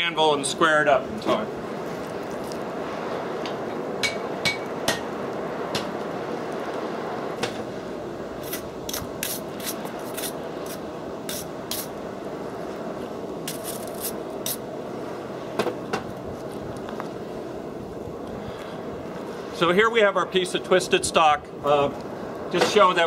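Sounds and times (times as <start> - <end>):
forge fire rushing under blower: 0.0 - 23.0.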